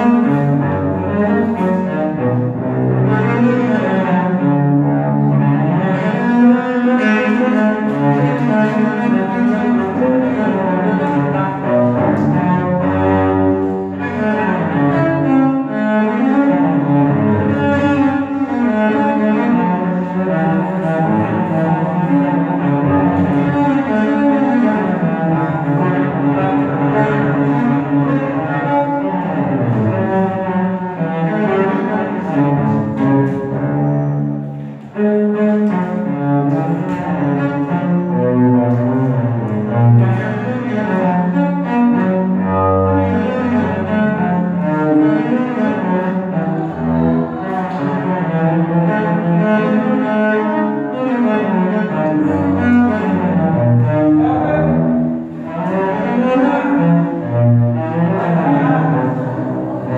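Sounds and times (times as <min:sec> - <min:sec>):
cello bowed notes: 0:00.0 - 0:59.9.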